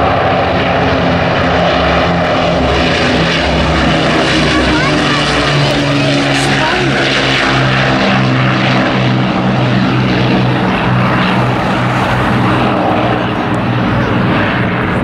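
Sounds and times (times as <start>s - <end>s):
propeller plane engines droning: 0.0s - 15.0s.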